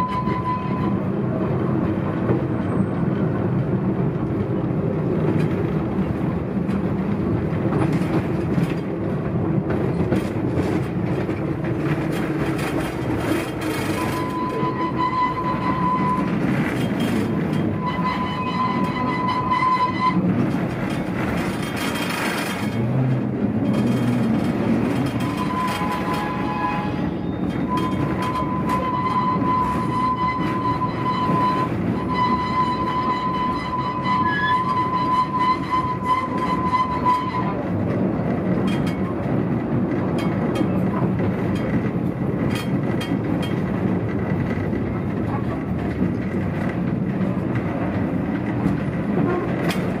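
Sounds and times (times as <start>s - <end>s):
train rumbling and rattling on track: 0.0s - 50.0s.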